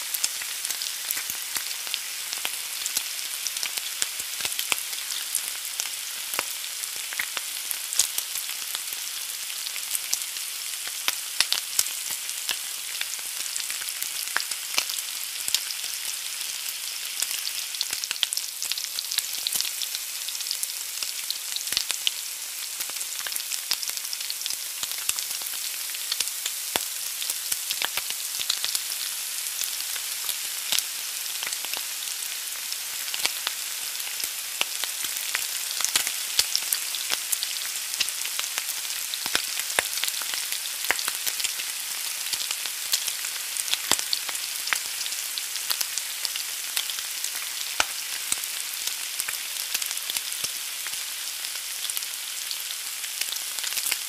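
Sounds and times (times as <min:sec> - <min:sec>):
egg sizzling in hot fat: 0:00.0 - 0:54.0.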